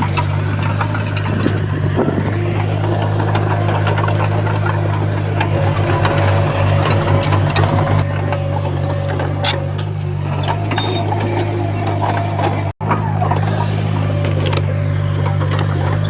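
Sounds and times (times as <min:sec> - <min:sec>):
diesel engine running: 0:00.0 - 0:16.0
sharp clicks and clanks: 0:00.0 - 0:16.0.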